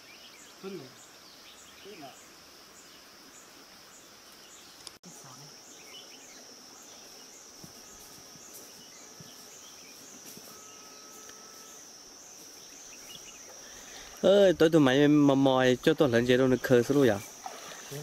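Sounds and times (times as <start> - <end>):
faint outdoor background noise: 0.0 - 18.0
insects droning: 0.0 - 18.0.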